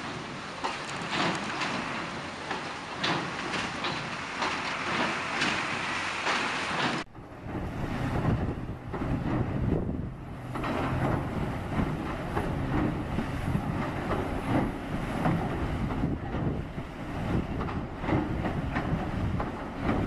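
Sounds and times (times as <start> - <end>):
excavator engine rumble: 0.0 - 20.0
water splashing: 0.0 - 20.0.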